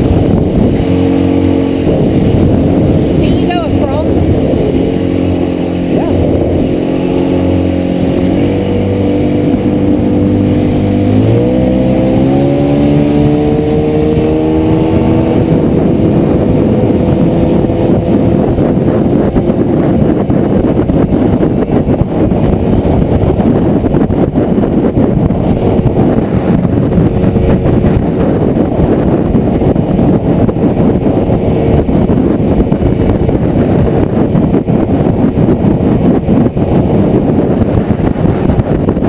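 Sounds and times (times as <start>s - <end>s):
motorboat engine revving: 0.0s - 39.0s
rushing of boat at speed: 0.0s - 39.0s.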